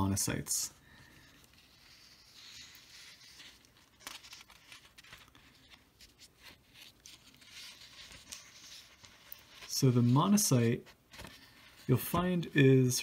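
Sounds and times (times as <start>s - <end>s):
paper rustling on a desk: 1.2s - 12.5s.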